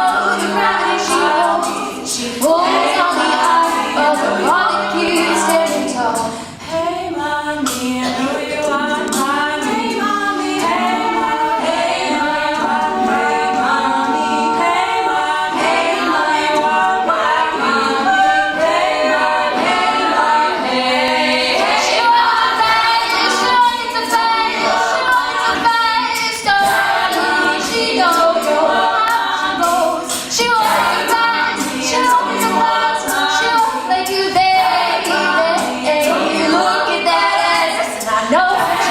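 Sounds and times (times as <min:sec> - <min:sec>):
a cappella group singing in harmony: 0:00.0 - 0:38.9.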